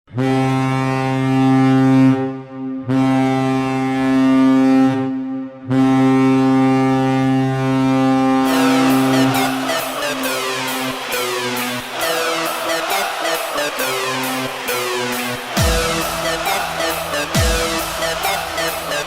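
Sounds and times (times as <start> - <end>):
goal horn blasts: 0.1 - 19.0.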